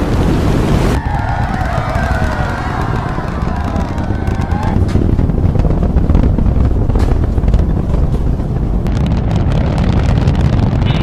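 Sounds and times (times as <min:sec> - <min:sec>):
rocket lifting off rumble: 0:00.0 - 0:11.0.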